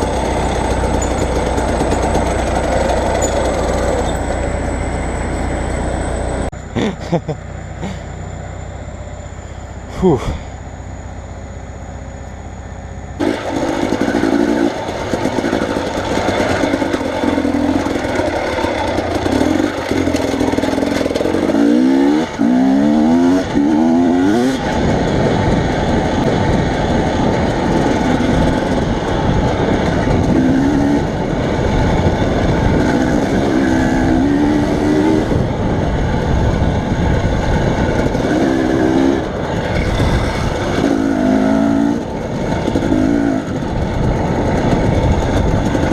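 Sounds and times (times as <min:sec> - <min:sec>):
vehicle engine running: 0:00.0 - 0:45.9
wind and road noise: 0:00.0 - 0:45.9.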